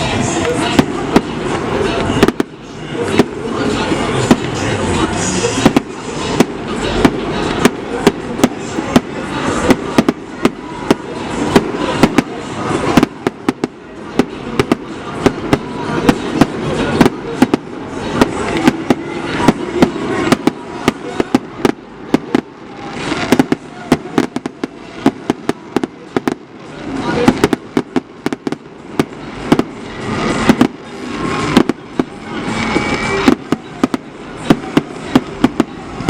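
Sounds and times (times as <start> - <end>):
fireworks bangs: 0.0 - 36.0
noisy wash: 0.0 - 36.0.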